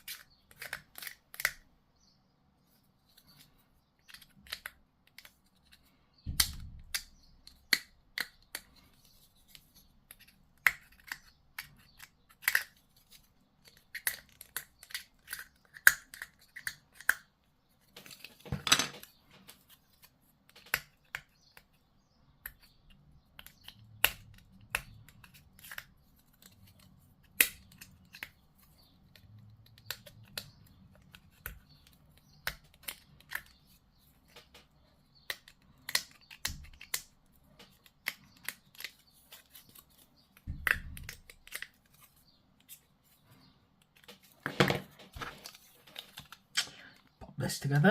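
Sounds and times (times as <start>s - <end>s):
plastic parts clicking and snapping: 0.0s - 1.7s, 3.2s - 21.8s, 22.4s - 42.8s.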